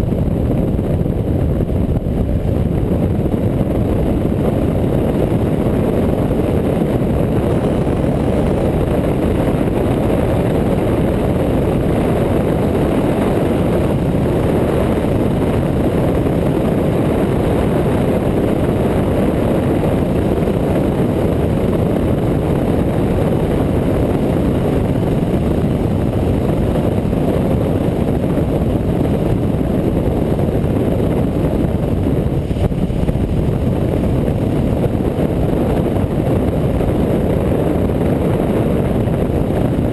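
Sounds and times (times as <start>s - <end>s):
motorcycle engine and wind noise: 0.0s - 39.9s.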